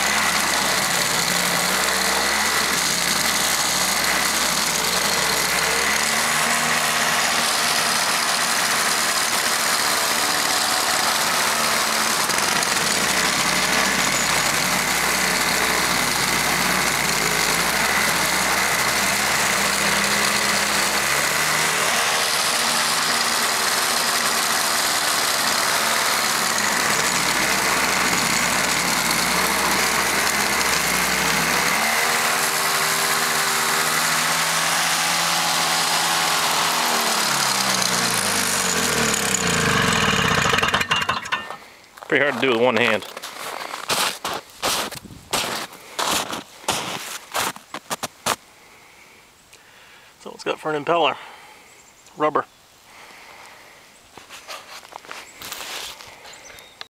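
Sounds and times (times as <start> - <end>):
rotor throwing icy snow: 0.0 - 48.4, 54.2 - 56.3
snowblower engine running: 0.0 - 48.4.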